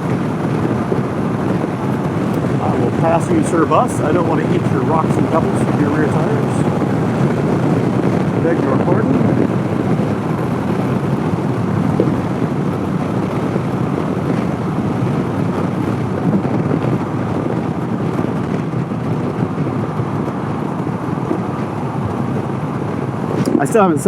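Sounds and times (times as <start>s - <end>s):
motorcycle running: 0.0s - 24.0s
road noise: 0.0s - 24.0s
wind noise on microphone: 0.0s - 24.0s.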